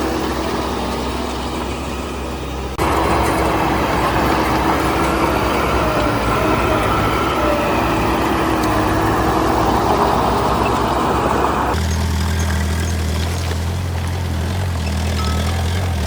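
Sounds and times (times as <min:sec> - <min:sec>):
heavy machinery engine clattering: 0:00.0 - 0:16.0
low engine hum: 0:00.0 - 0:16.0.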